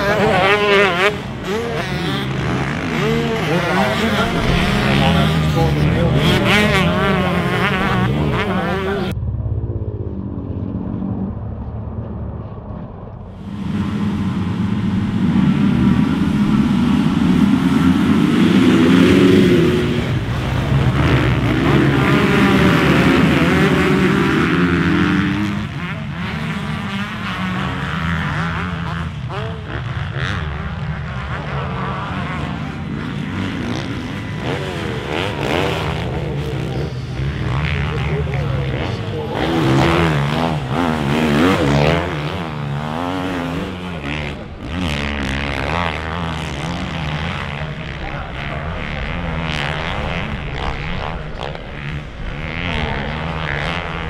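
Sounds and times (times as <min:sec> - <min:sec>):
dirt bike engines revving: 0:00.0 - 0:09.2, 0:13.1 - 0:54.0.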